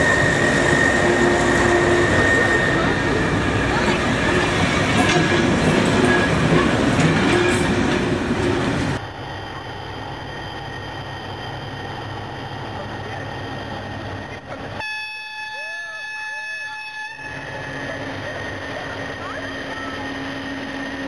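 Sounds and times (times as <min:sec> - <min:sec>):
train wheels rumbling on rails: 0:00.0 - 0:14.8, 0:17.2 - 0:21.0.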